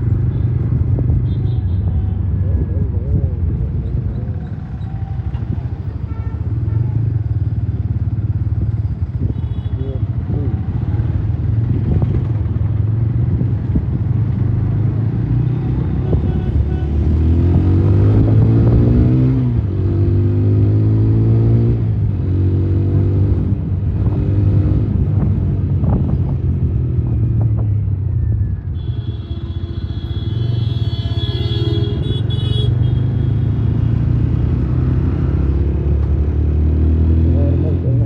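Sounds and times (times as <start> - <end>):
motorcycle engine rumbling: 0.0 - 19.8, 21.8 - 38.0.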